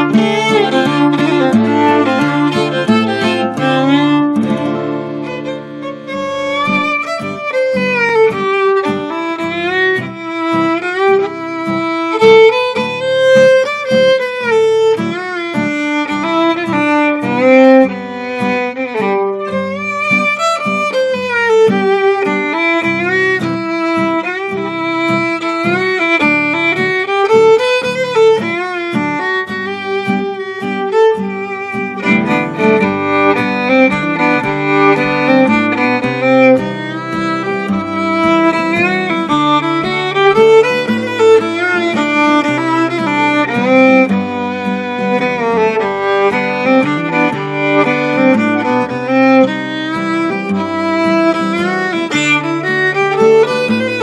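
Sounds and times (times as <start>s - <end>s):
acoustic guitar strumming: 0.0s - 54.0s
fiddle melody: 0.0s - 54.0s.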